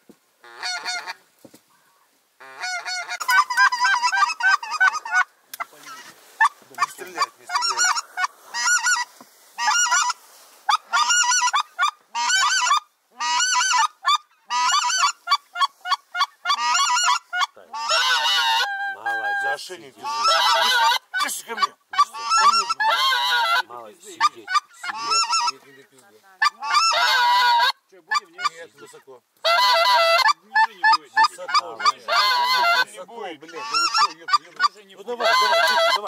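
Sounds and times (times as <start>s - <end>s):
goose call honks: 0.4s - 1.2s, 2.4s - 25.8s, 26.4s - 36.0s.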